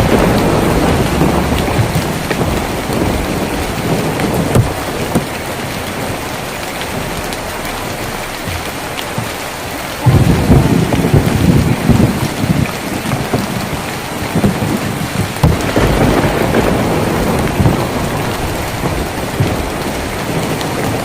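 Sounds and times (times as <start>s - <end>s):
heavy rain on a tin roof: 0.0s - 21.0s
raindrops tapping: 0.0s - 21.0s
thunder rumble: 0.0s - 21.0s.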